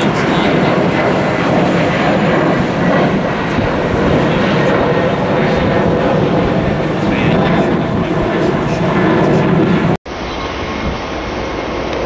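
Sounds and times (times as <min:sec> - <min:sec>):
jet engine roar overhead: 0:00.0 - 0:12.0.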